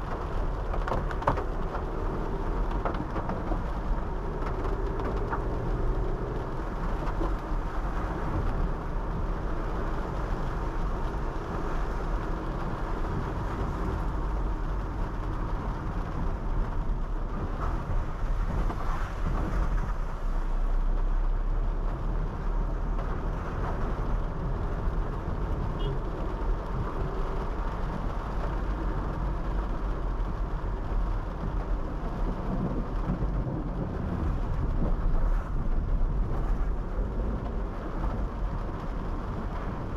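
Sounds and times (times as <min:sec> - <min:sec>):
car engine and tyres rumbling: 0:00.0 - 0:39.9
rain and road spray hissing: 0:00.0 - 0:39.9.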